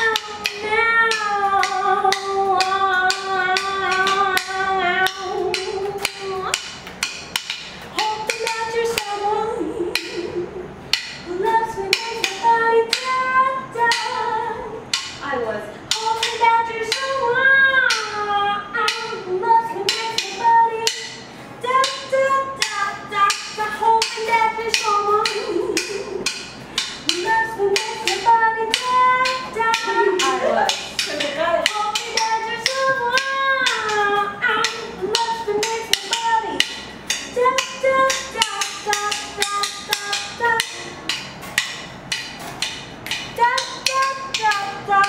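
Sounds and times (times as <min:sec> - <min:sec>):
woman singing long notes: 0:00.0 - 0:06.8, 0:07.4 - 0:42.2, 0:43.1 - 0:45.0
drumsticks clicking a beat: 0:00.0 - 0:45.0
small band playing: 0:00.0 - 0:45.0.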